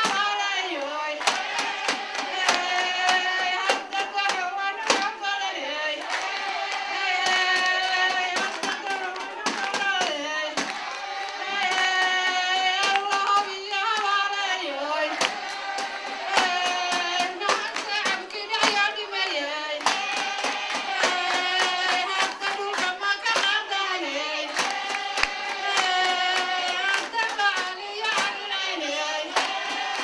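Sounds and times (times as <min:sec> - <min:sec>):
crowd clapping in rhythm: 0:00.0 - 0:30.0.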